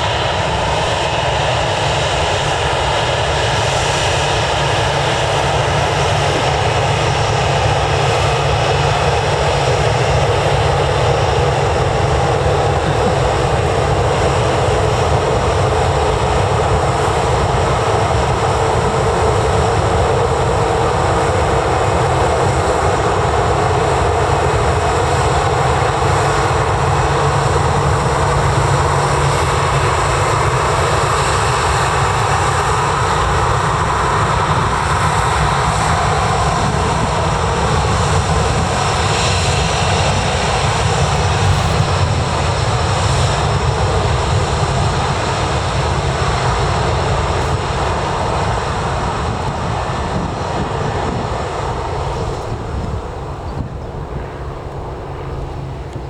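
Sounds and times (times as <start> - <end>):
aircraft engines roaring: 0.0 - 56.0.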